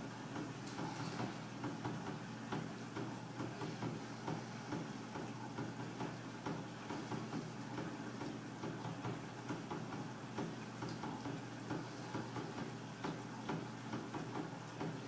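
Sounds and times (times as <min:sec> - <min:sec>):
dishwasher motor hum: 0:00.0 - 0:15.0.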